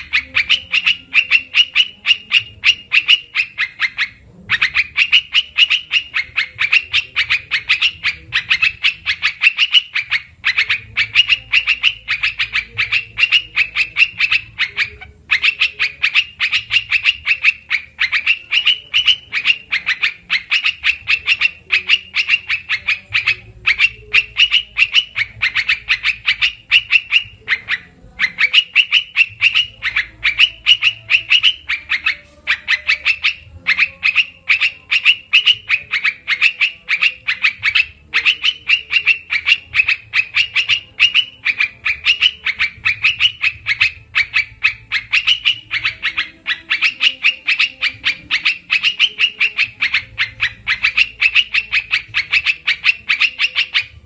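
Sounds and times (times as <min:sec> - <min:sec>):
bird calling sharp notes: 0:00.0 - 0:54.0.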